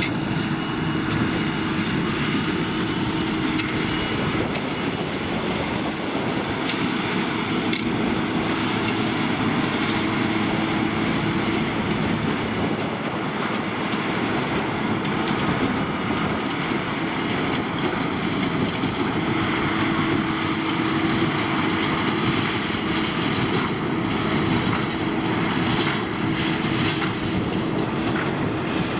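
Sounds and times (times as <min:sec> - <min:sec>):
tractor and baler running: 0:00.0 - 0:28.9.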